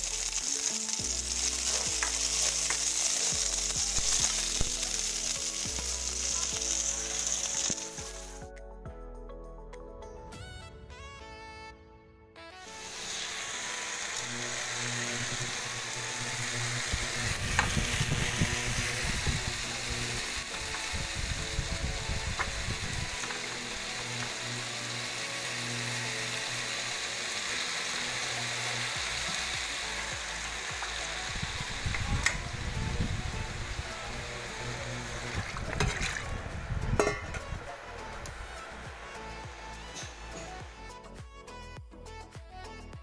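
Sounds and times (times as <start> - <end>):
vegetables sizzling in oil: 0.0 - 8.4, 12.7 - 40.9.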